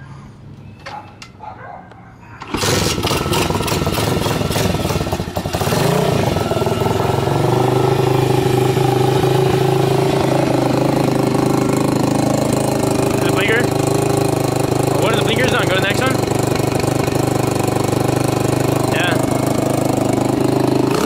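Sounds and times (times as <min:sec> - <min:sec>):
motorcycle engine kick-started and idling: 0:02.4 - 0:21.0.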